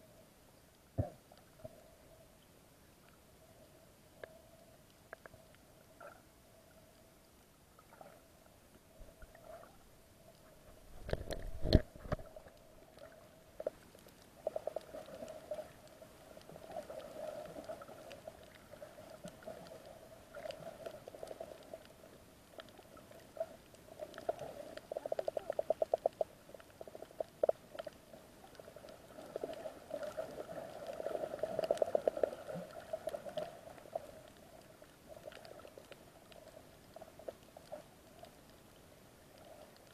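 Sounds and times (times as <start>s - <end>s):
underwater clicks and ticking: 4.2s - 6.2s, 9.2s - 39.9s.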